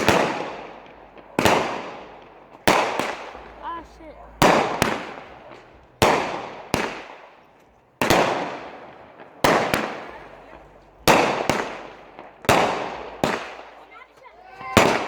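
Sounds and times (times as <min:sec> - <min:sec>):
firework bangs: 0:00.0 - 0:15.0
smaller firework crack: 0:00.0 - 0:15.0.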